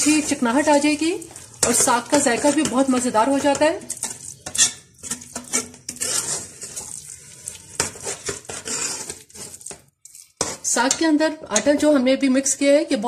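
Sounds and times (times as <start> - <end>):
spoon scraping metal pot: 0.0 - 11.9.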